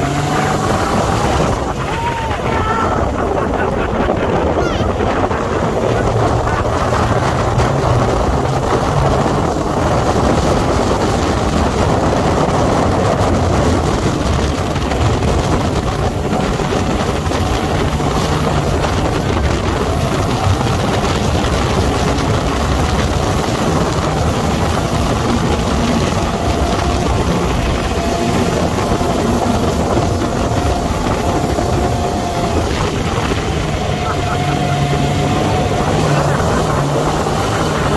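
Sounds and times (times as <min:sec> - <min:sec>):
dune buggy engine running: 0:00.0 - 0:37.9.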